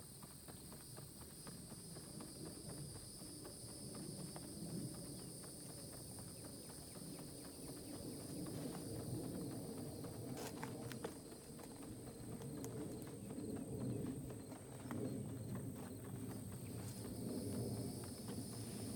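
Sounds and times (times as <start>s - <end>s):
scuffing and tapping on ground: 1.7s - 18.9s.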